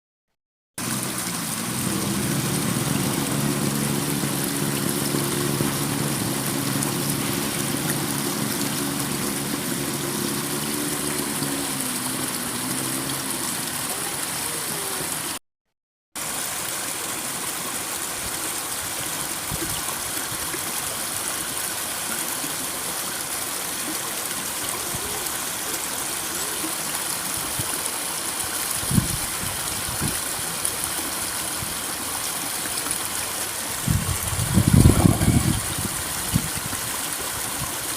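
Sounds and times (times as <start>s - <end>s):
water rushing in a stream: 0.8s - 15.4s, 16.2s - 37.9s.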